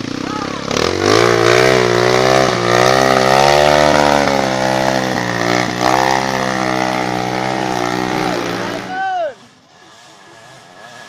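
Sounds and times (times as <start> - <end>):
motorcycle engine revving hard: 0.0 - 9.0.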